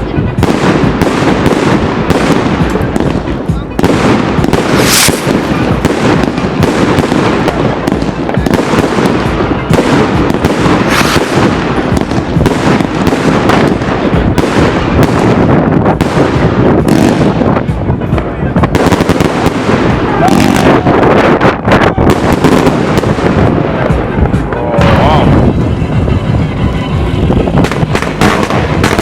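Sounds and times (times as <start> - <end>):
sharp firework cracks: 0.0 - 24.5, 27.6 - 29.0
fireworks bangs and crackling: 0.0 - 29.0.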